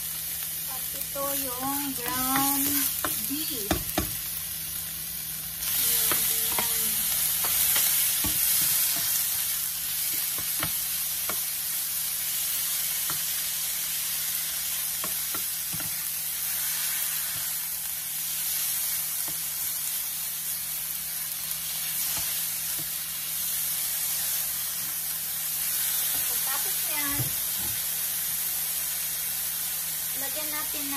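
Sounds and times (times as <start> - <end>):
meat sizzling in a frying pan: 0.0 - 30.9.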